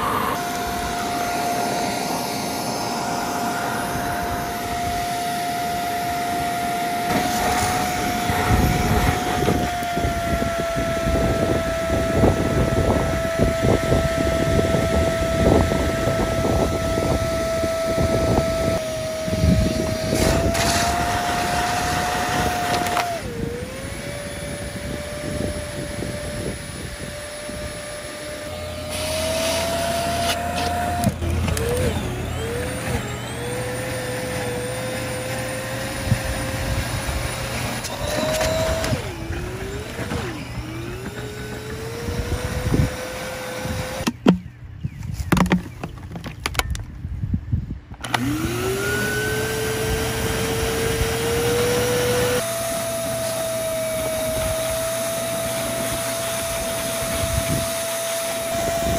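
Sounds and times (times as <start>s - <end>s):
vacuum cleaner motor whine: 0.0s - 44.5s, 48.0s - 58.9s.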